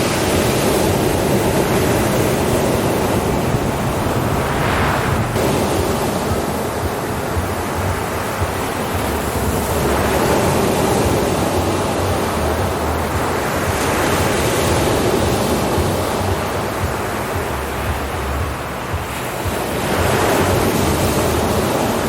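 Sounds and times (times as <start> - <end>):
ocean waves breaking on shore: 0.0 - 22.0.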